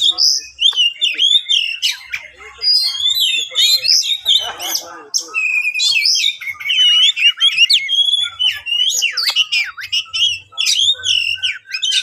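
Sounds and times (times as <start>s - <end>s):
bird singing whistles and chirps: 0.0s - 12.0s.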